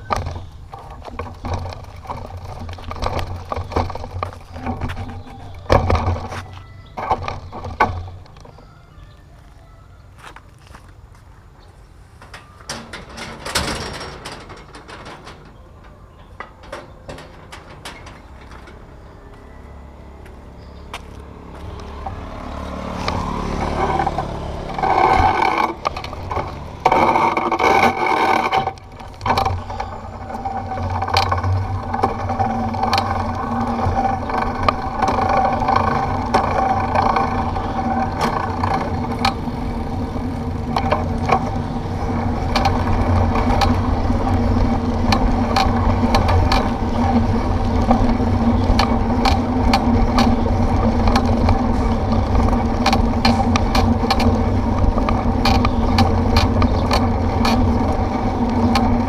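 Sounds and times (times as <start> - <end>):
rattles and knocks: 0.0 - 8.7, 12.1 - 20.3, 20.9 - 59.0
bike rumbling over rough road: 0.0 - 59.0.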